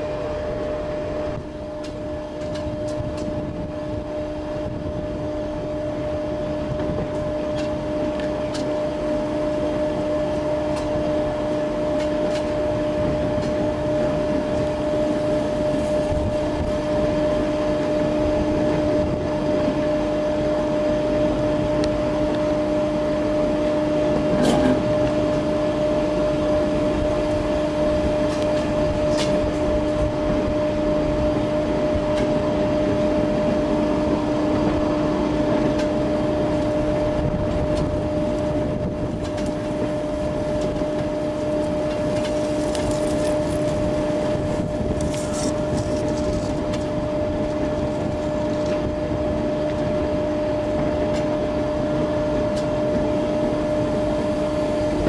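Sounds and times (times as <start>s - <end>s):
train droning hum: 0.0s - 55.0s
wheels rumbling: 0.0s - 55.0s.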